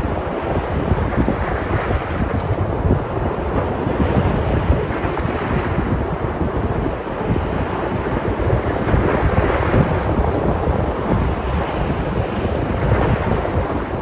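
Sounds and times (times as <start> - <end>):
sea surf breaking: 0.0 - 14.0
wind buffeting microphone: 0.0 - 14.0.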